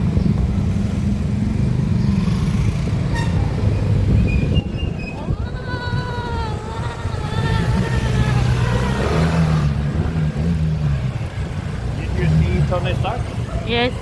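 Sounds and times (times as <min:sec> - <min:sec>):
vehicle road rumble: 0:00.0 - 0:14.0.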